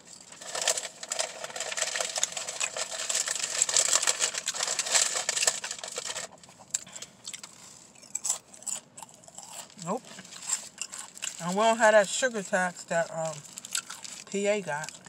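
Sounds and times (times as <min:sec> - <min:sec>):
paper wrapper crinkling: 0:00.0 - 0:07.9, 0:09.6 - 0:12.0, 0:13.1 - 0:15.0.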